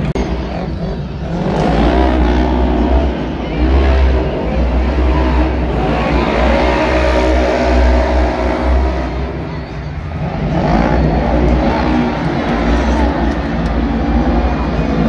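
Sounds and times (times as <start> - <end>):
off-road vehicle engines revving: 0.0 - 15.0.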